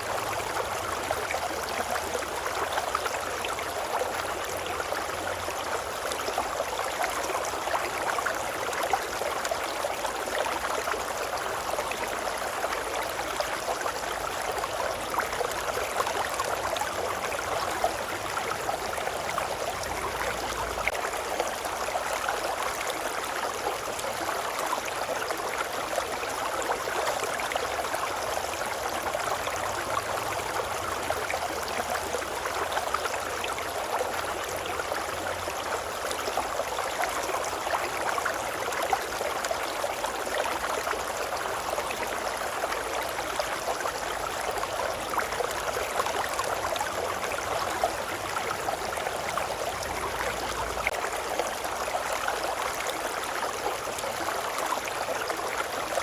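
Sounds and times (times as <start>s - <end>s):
river babbling: 0.0s - 56.0s.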